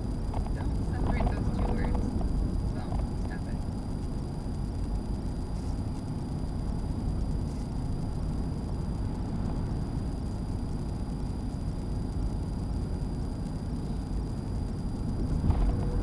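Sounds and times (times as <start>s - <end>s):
in-cab engine and tyre rumble: 0.0s - 16.0s.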